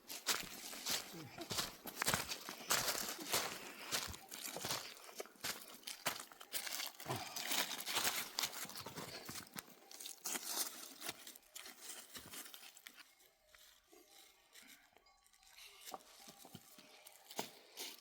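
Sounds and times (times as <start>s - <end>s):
crunching and rustling: 0.1s - 18.0s.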